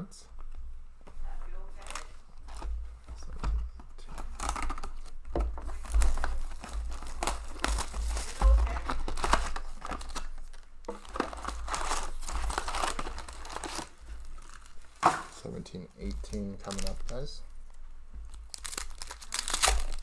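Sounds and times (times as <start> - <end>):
plastic wrap tearing and crinkling: 1.6 - 2.8, 4.1 - 15.4, 16.1 - 20.0.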